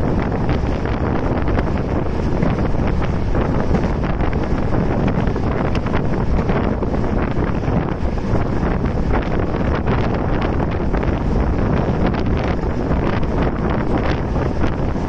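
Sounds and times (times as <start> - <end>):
moving train running noise: 0.0 - 15.0
wind buffeting microphone: 0.0 - 15.0.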